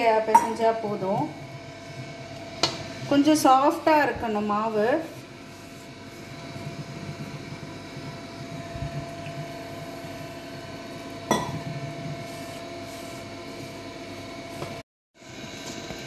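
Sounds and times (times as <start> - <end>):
hand mixing flour in bowl: 1.0 - 11.2, 11.8 - 14.8.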